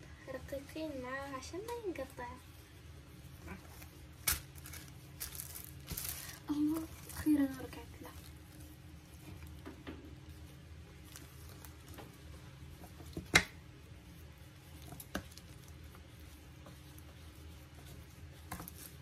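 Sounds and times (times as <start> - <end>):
gloved hands squishing and rustling: 0.1 - 19.0.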